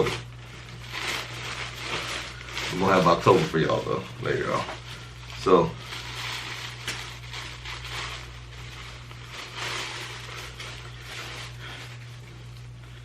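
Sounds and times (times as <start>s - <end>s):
hoodie and packaging rustling: 0.0s - 13.0s
low electrical hum: 0.0s - 13.0s.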